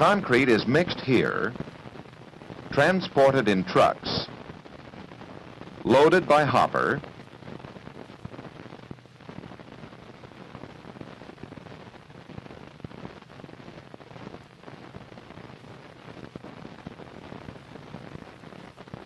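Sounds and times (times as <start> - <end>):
film soundtrack hiss and crackle: 0.0 - 19.0.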